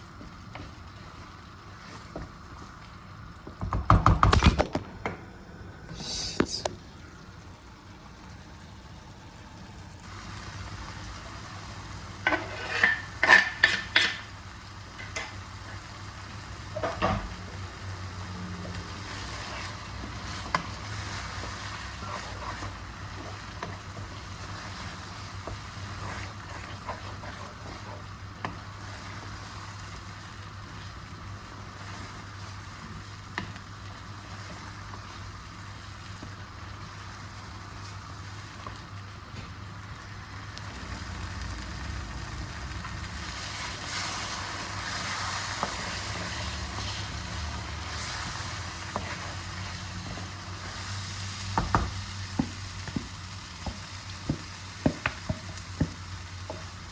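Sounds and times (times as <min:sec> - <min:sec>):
utensil stirring in a pan: 0:00.0 - 0:03.1, 0:10.0 - 0:56.9
food sizzling in a pan: 0:00.0 - 0:03.6, 0:06.0 - 0:56.9.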